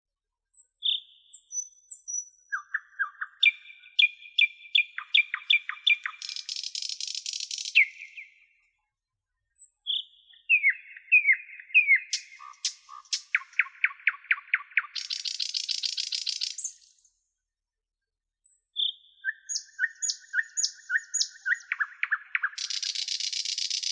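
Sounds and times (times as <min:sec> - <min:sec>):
songbird singing: 0:00.6 - 0:08.7, 0:09.6 - 0:17.1, 0:18.7 - 0:23.9.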